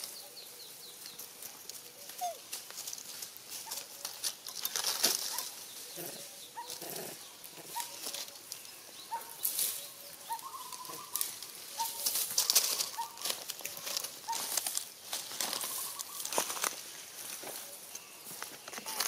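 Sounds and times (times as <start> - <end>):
dry leaves crackling and rustling: 0.0 - 19.0.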